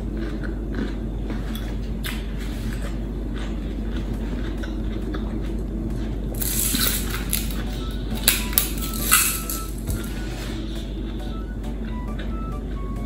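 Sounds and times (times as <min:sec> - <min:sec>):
crunching raw vegetables: 0:00.0 - 0:10.5
low hum: 0:00.0 - 0:13.0.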